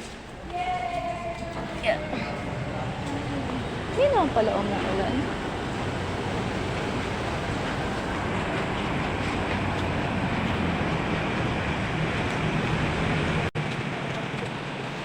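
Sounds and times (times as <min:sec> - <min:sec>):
street traffic engine rumble: 0:00.0 - 0:15.0.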